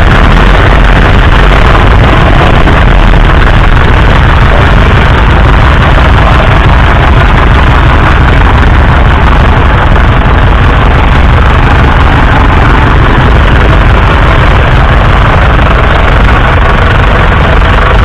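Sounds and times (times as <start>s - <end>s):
diesel tractor engine idling: 0.0s - 18.0s.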